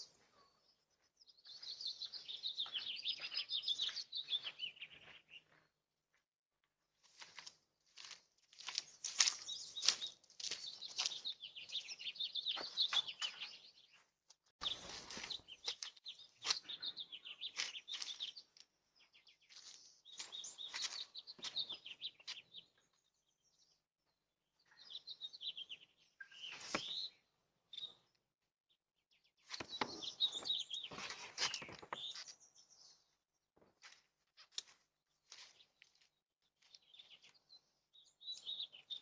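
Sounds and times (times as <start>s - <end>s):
birds chirping: 0.0s - 5.8s, 8.6s - 28.3s, 29.0s - 33.2s, 34.4s - 39.0s.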